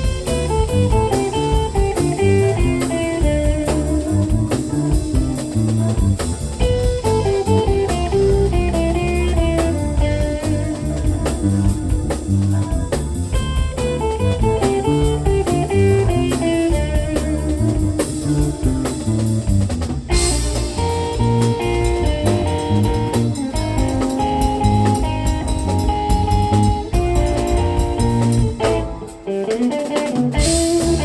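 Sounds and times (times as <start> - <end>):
live band playing instrumental: 0.0 - 31.0.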